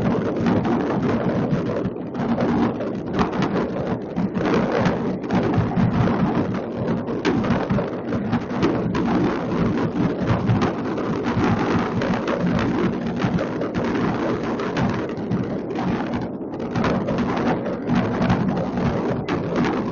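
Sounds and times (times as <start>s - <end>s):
fireworks bursting and crackling: 0.0s - 19.9s.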